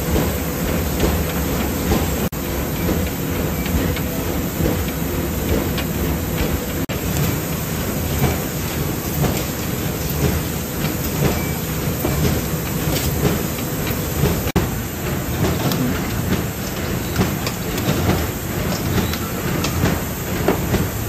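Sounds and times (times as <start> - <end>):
low machine noise: 0.0 - 21.0
machine clicks and clatter: 0.0 - 21.0.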